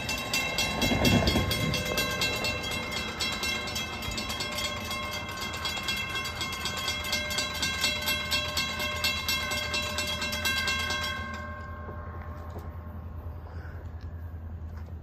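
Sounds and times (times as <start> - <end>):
crossing warning bell ringing: 0.0 - 13.4.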